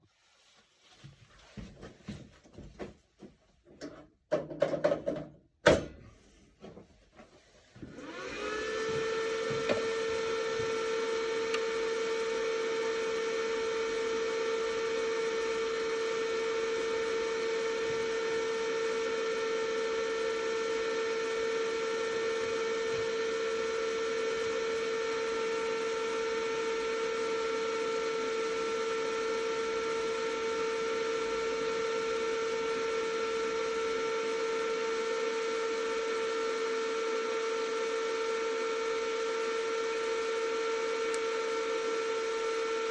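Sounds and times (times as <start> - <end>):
electric motor whine: 7.9 - 42.9.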